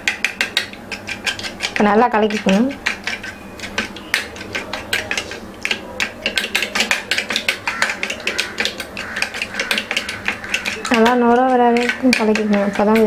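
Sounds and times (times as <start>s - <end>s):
spoon clinking against metal bowl: 0.1s - 13.0s.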